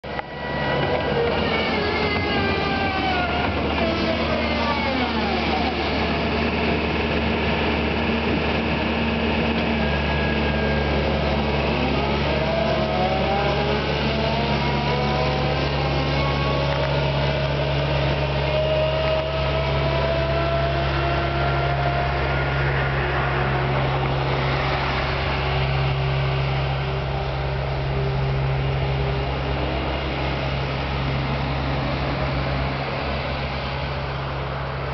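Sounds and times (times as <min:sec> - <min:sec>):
diesel engine humming: 0:00.0 - 0:34.9
gliding hydraulic whines: 0:00.0 - 0:34.9.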